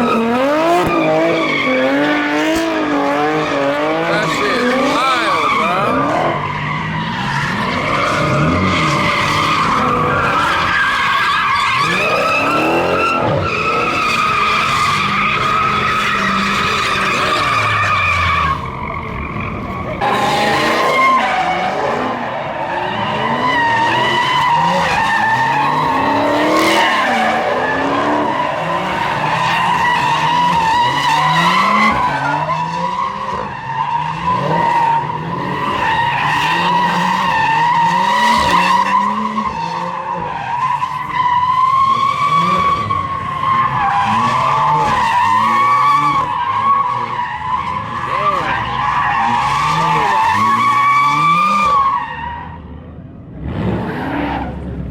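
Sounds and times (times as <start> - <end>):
car engines revving: 0.0 - 54.9
tires squealing: 0.0 - 54.9.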